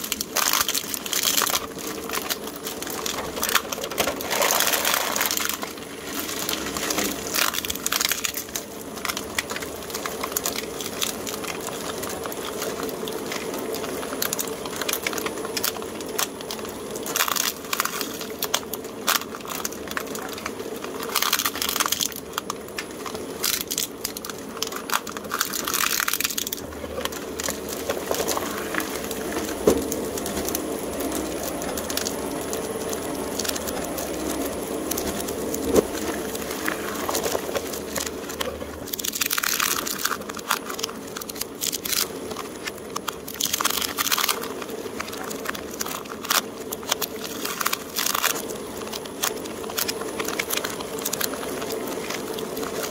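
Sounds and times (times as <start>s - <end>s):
plastic capsules crunching and cracking: 0.0s - 52.9s
shredder motor hum: 0.0s - 52.9s.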